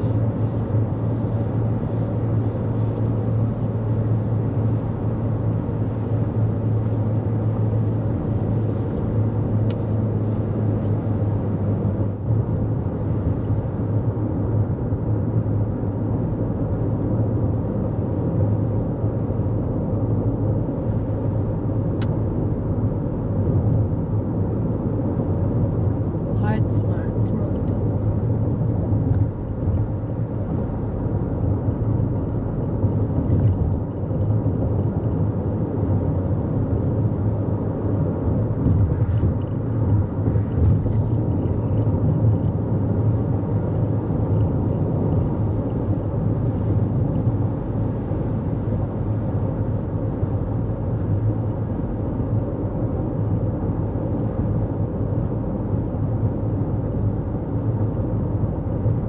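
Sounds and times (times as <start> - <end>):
tyres rumbling on road: 0.0 - 59.0.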